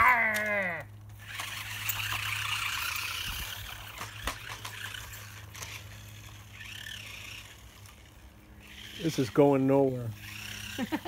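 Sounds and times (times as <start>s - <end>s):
toy car electric motor whirring: 0.0s - 11.0s.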